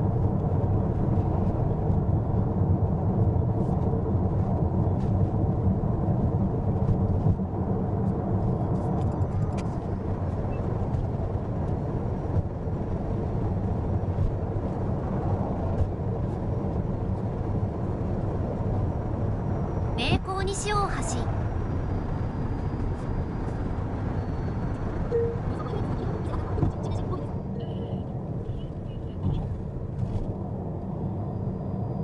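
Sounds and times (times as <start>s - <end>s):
road and tyre noise: 0.0s - 32.0s.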